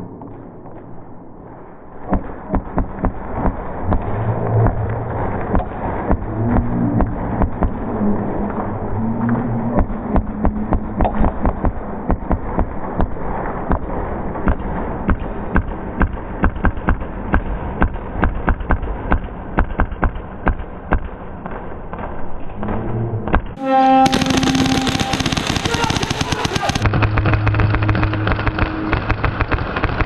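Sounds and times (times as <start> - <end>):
steady rushing background: 0.0 - 22.2, 23.4 - 30.0.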